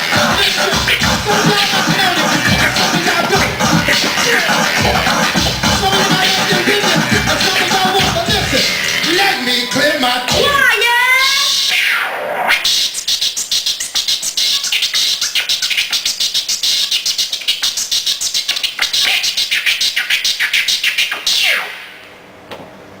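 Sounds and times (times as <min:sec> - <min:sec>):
turntable scratching: 0:00.0 - 0:22.0.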